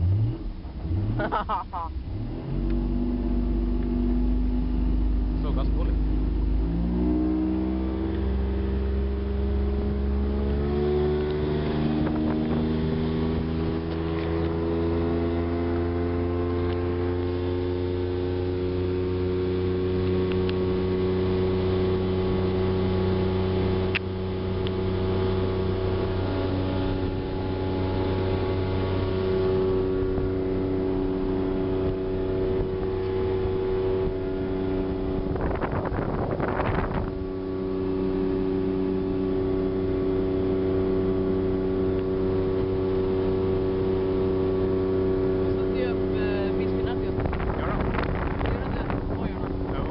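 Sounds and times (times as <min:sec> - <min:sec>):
outboard motor running: 0:00.0 - 0:49.9.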